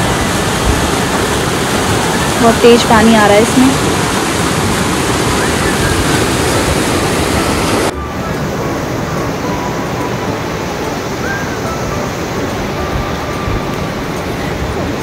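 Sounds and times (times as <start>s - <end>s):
river rushing over boulders: 0.0s - 15.0s.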